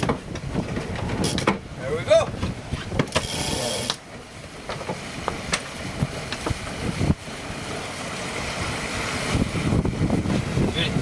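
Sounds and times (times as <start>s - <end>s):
rushing water and wind: 0.0s - 11.0s.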